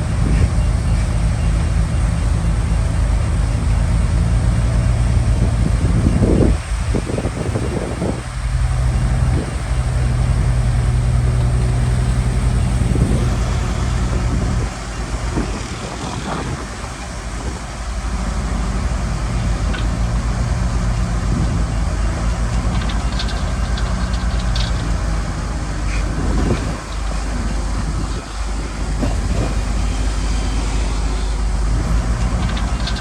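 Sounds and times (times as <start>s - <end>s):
bulldozer diesel engine drone: 0.0s - 33.0s.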